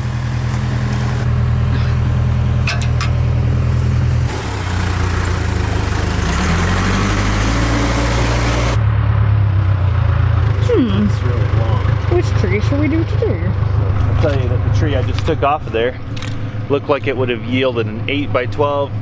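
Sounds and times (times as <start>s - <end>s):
backhoe engine revving: 0.0s - 18.3s.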